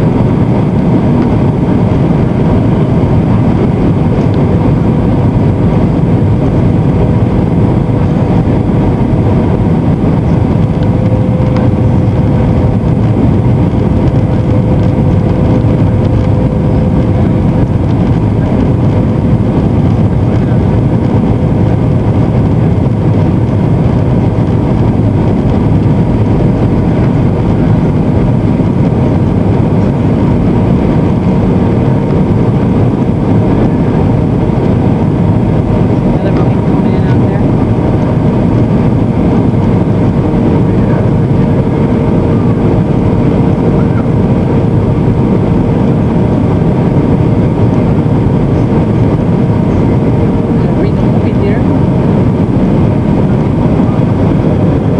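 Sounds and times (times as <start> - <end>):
airplane cabin rumble: 0.0 - 54.9
faint steady whine: 0.0 - 54.9.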